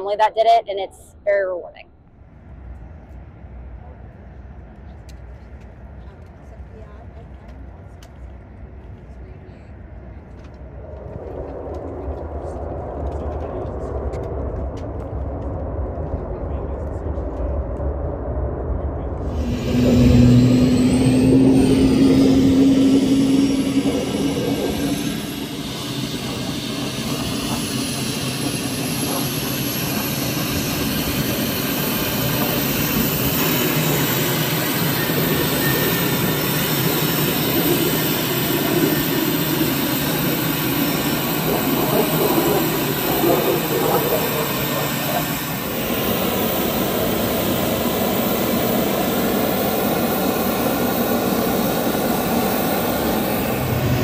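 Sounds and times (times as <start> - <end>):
jet engine idling: 2.4 - 54.0.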